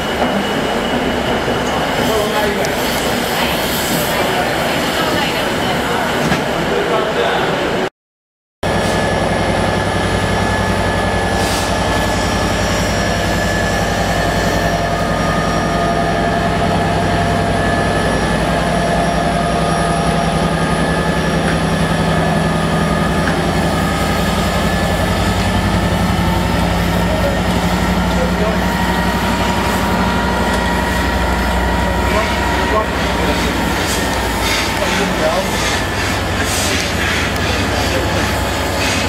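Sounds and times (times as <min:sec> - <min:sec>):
diesel locomotive engine droning: 0:00.0 - 0:07.9, 0:08.6 - 0:39.0.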